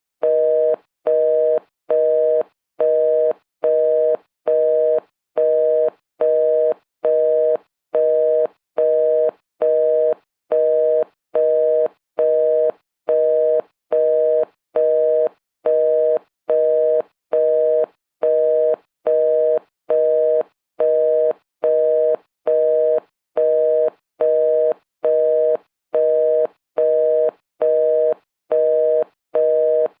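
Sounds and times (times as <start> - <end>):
telephone busy signal beeps: 0.2 - 30.0.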